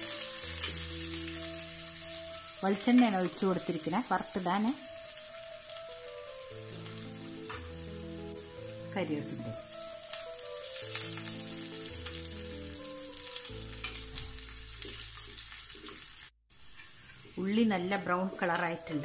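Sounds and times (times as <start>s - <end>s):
soft background music: 0.0s - 15.1s, 17.3s - 19.0s
oil sizzling and popping: 0.0s - 19.0s.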